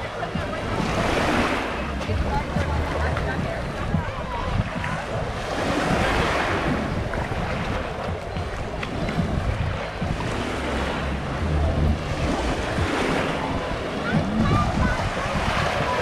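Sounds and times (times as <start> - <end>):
surf washing onto sand: 0.0 - 16.0
wind rumbling on microphone: 0.0 - 16.0.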